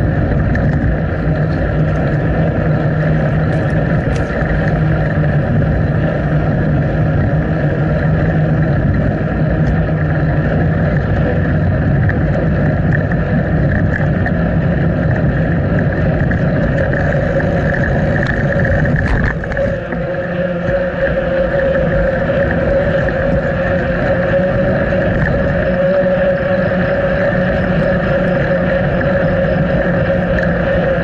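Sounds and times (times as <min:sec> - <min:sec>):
constant low hum: 0:00.0 - 0:31.0
wind and riding noise: 0:00.0 - 0:31.0.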